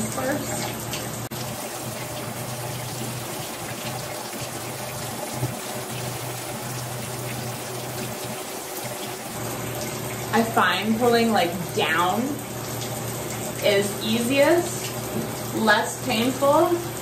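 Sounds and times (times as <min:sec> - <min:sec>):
tap water rushing: 0:00.0 - 0:17.0.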